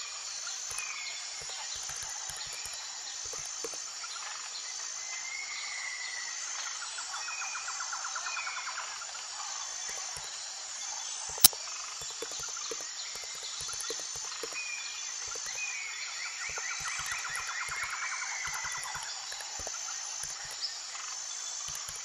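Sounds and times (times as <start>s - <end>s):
insects chirping: 0.0s - 5.5s, 8.1s - 22.0s.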